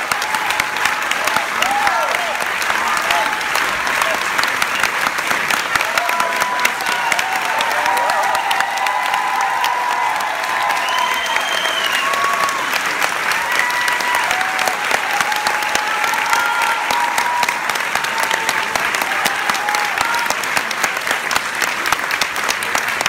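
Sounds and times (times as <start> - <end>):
audience applauding: 0.0 - 23.0
cheers: 0.0 - 23.0.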